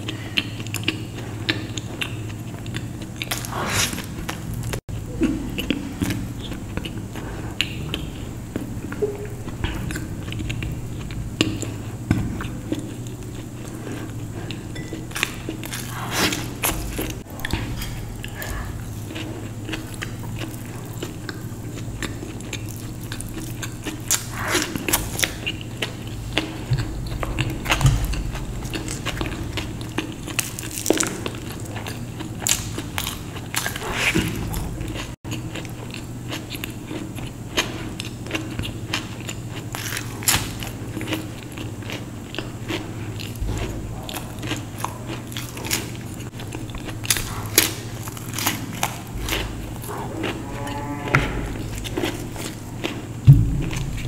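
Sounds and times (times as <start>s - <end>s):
crunchy chewing: 0.0s - 54.0s
steady low hum: 0.0s - 54.0s.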